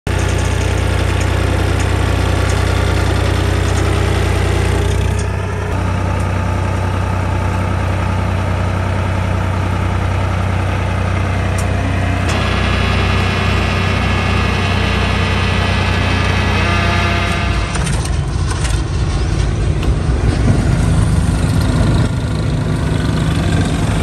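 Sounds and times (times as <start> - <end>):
tractor diesel engine idling: 0.1 - 24.0.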